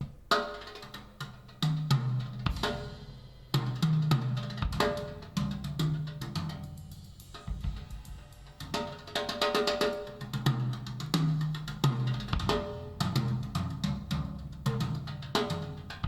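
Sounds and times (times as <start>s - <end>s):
drum-led music with bass: 0.9s - 16.0s.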